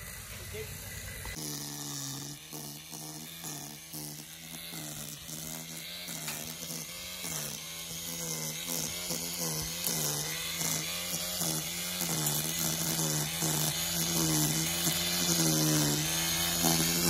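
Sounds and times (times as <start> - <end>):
line trimmer cutting grass: 0.0 - 17.0.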